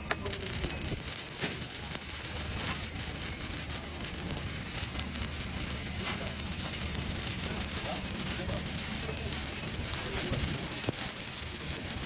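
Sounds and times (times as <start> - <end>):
welding arc hissing and crackling: 0.0 - 12.0.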